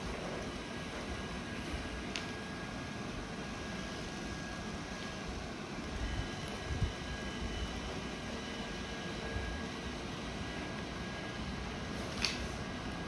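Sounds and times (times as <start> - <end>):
faint high whine: 0.0 - 13.0
room noise hum: 0.0 - 13.0.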